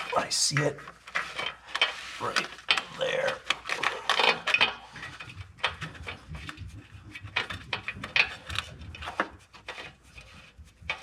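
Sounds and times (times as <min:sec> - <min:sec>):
hand handling clicks and knocks: 0:00.0 - 0:11.0.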